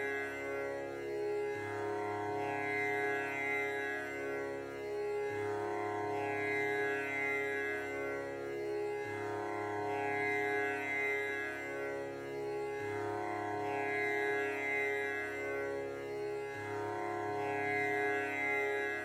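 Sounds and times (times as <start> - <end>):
meditative drone music: 0.0 - 19.0.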